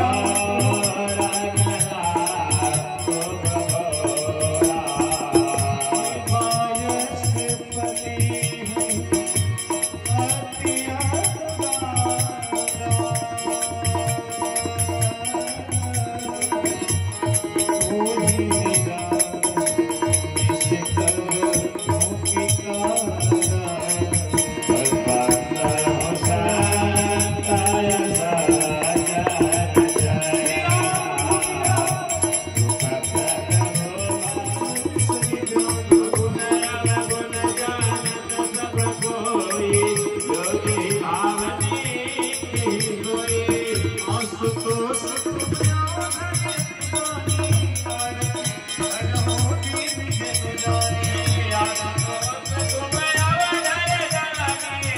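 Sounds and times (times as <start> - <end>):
harmonium melody: 0.0 - 54.9
jingling rattle percussion: 0.0 - 54.9.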